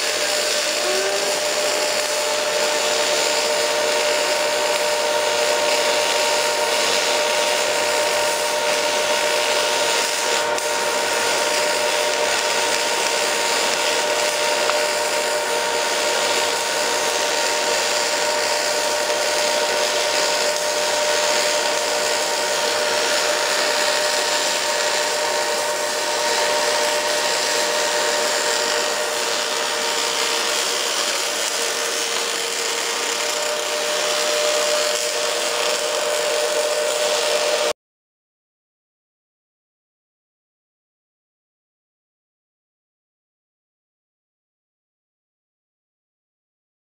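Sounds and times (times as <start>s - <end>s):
welding arc hissing: 0.0s - 37.8s.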